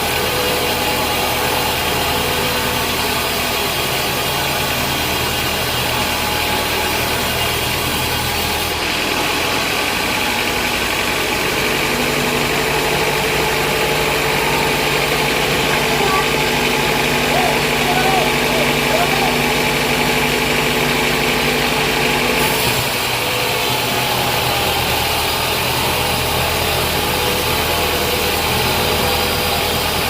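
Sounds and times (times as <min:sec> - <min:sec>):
band saw running: 0:00.0 - 0:30.0.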